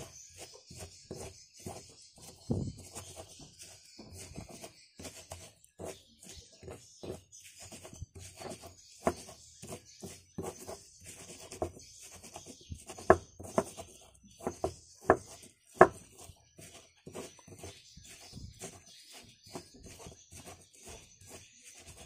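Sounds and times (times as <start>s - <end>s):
pestle crushing in mortar: 0.0s - 22.0s
pestle scraping and knocking: 0.0s - 22.0s.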